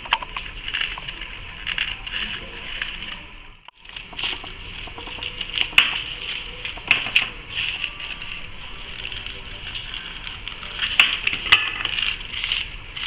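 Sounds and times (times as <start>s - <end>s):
paper liners crinkling: 0.0s - 13.0s.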